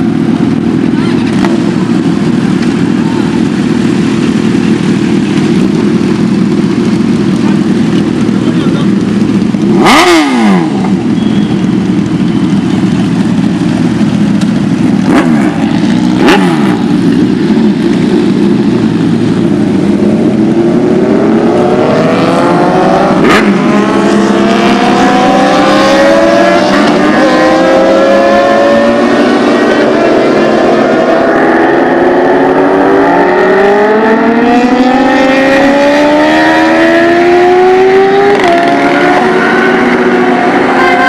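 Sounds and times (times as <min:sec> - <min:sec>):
car engine drone: 0:00.0 - 0:41.0
engine accelerating: 0:00.0 - 0:41.0.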